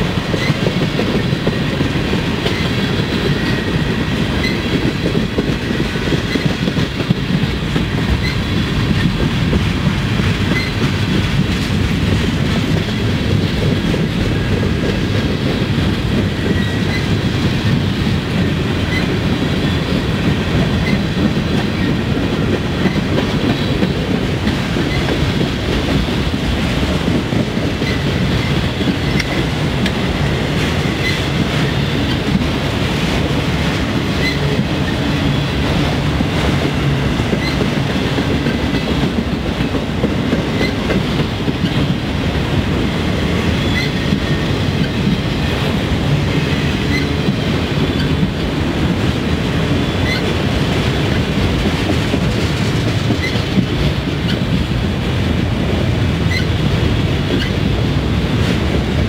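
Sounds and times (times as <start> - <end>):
train wheels rumbling on rails: 0.0 - 59.0
wheels clickety-clack: 0.0 - 59.0.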